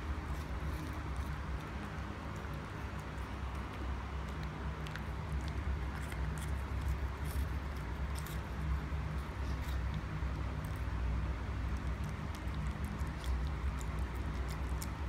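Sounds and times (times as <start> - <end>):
cat licking and chewing: 0.0 - 15.0.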